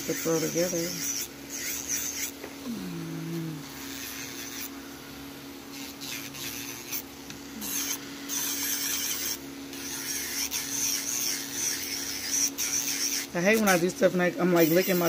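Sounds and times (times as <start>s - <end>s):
drill bit grinding acrylic nail: 0.0s - 2.7s, 3.3s - 4.8s, 5.7s - 15.0s
electric nail drill humming: 0.0s - 15.0s.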